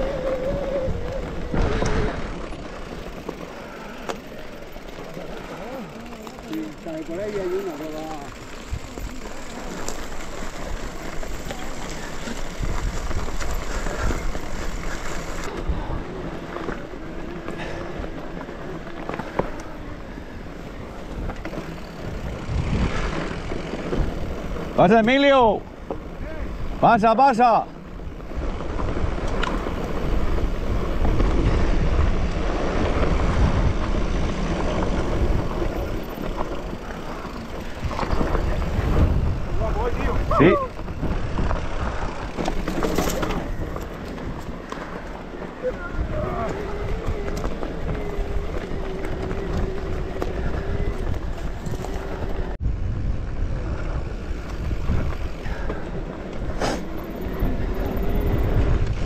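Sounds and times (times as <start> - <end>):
wind rumbling on microphone: 0.0 - 4.5, 8.3 - 24.8, 27.8 - 59.0
bike clicking and rattling: 0.0 - 59.0
bike tyres on dirt and stones: 0.0 - 59.0.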